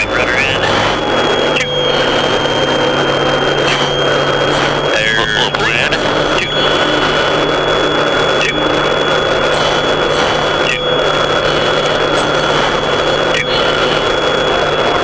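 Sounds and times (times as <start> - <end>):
low beeping: 0.0 - 15.0
low steady hum: 0.0 - 15.0
steady high warning tone: 0.0 - 15.0.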